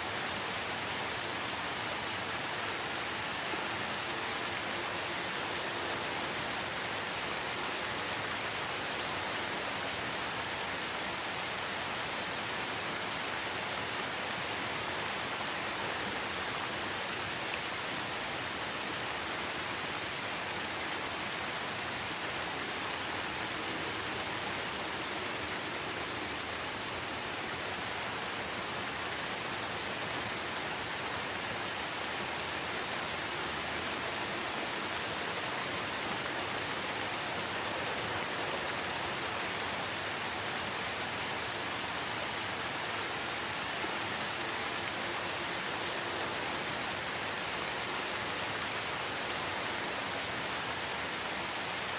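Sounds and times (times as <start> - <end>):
rain falling steadily: 0.0 - 51.9.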